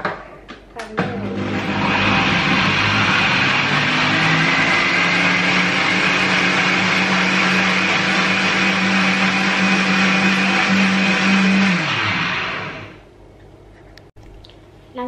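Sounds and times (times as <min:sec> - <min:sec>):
electric blender running: 0:01.0 - 0:13.0.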